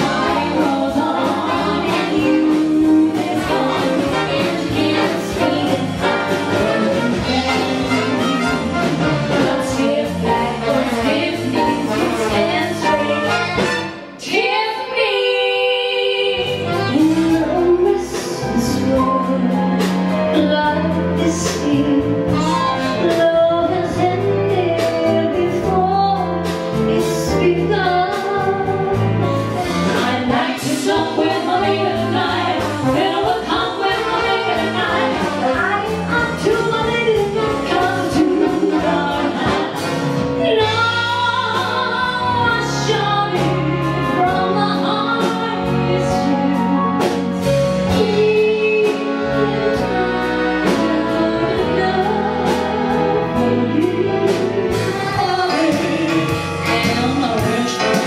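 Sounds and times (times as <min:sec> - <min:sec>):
woman singing: 0:00.0 - 0:08.6, 0:09.3 - 0:13.6, 0:14.2 - 0:29.1, 0:29.9 - 0:58.0
backing band: 0:00.0 - 0:58.0.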